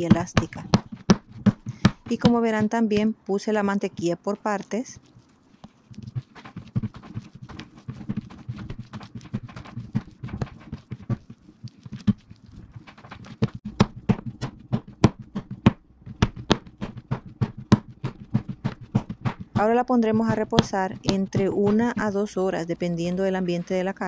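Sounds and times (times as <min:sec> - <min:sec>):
dough slapping on wooden table: 0:00.0 - 0:03.1, 0:05.6 - 0:22.4.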